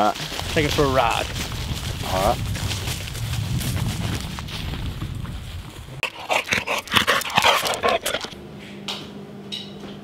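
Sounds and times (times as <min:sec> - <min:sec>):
wind rumbling on microphone: 0:00.0 - 0:08.4.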